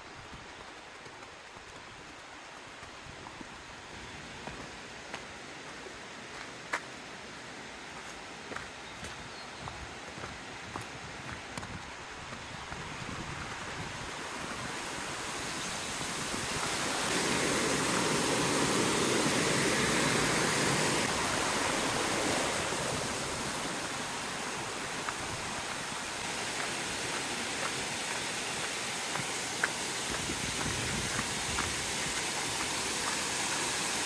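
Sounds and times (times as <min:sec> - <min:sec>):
mountain stream rushing water: 0:00.0 - 0:34.0.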